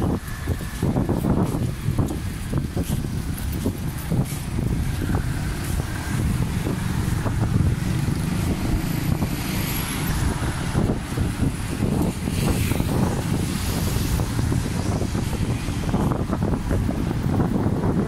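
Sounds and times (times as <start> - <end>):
cars passing: 0.0 - 18.0
wind rumbling on microphone: 0.0 - 18.0.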